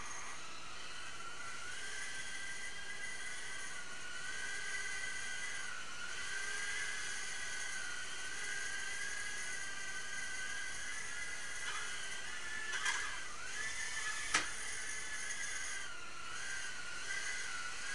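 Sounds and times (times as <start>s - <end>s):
quadcopter motors whining: 0.0s - 17.9s.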